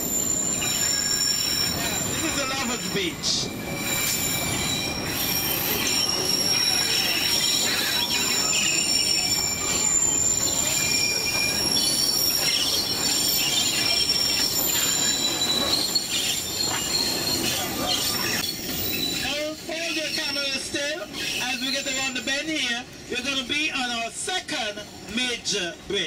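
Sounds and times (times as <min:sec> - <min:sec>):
steel wheels squealing on rails: 0:00.0 - 0:24.0
train rolling rumble: 0:00.0 - 0:26.0.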